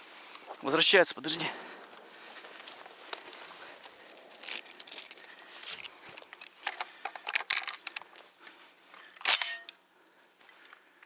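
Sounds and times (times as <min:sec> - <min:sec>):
soft rustling and crinkling: 0:00.0 - 0:11.0.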